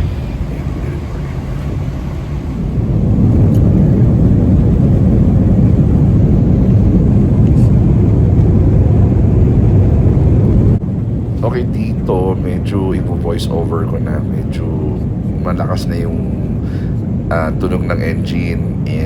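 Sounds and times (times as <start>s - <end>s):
jet engines spooling up: 0.0s - 19.0s.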